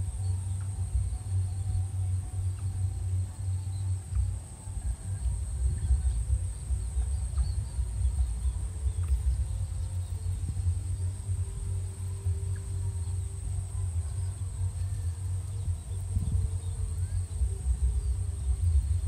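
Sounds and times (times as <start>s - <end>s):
faint chirps: 0.0s - 19.0s
steady high-pitched whine: 0.0s - 19.0s
wind buffeting microphone: 0.0s - 19.0s.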